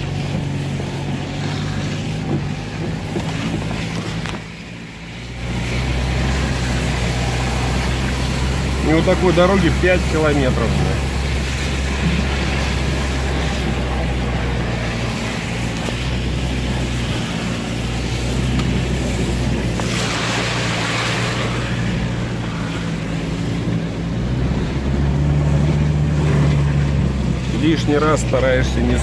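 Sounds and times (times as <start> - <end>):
car engine under load: 0.0 - 29.0
slush spraying against car: 0.0 - 29.0
tyres churning through mud: 0.0 - 29.0.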